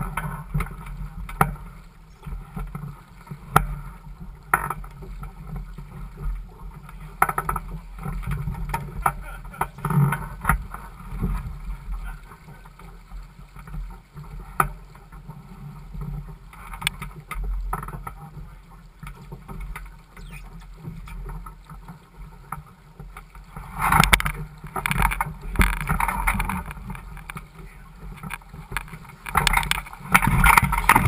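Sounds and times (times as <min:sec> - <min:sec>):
water washing along hull: 0:00.0 - 0:31.0
wind rumble on microphone: 0:00.0 - 0:31.0.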